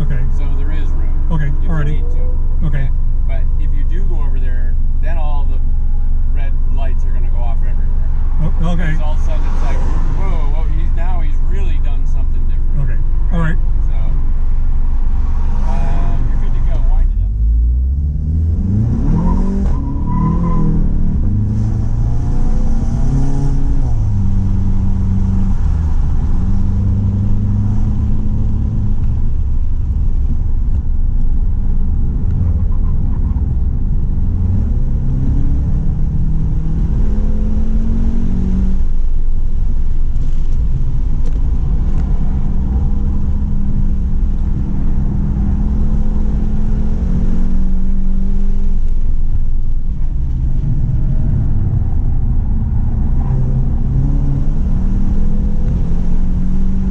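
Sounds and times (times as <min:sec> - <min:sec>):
car engine revving on track: 0:00.0 - 0:39.1, 0:40.2 - 0:49.4, 0:50.0 - 0:56.9.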